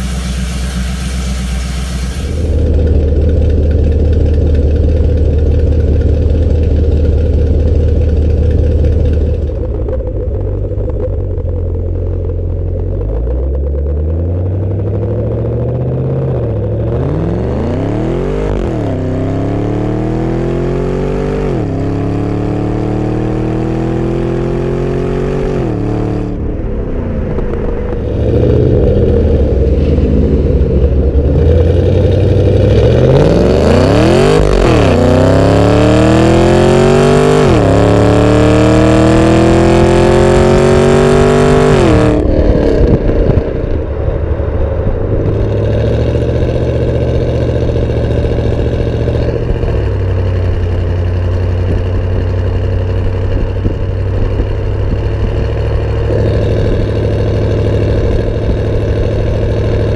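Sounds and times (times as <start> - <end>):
car exhaust while driving: 0.0 - 59.9.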